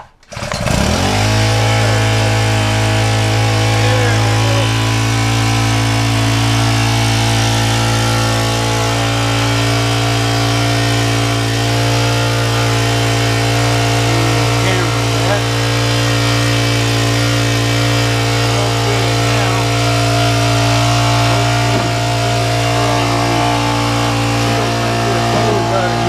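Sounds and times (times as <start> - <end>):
water pump engine running: 0.0 - 26.0.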